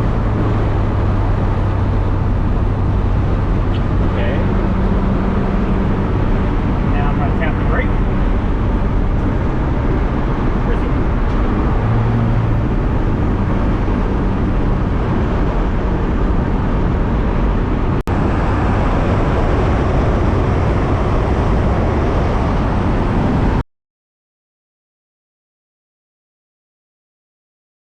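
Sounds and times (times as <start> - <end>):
diesel engine drone in cab: 0.0 - 23.6
road noise: 0.0 - 23.6.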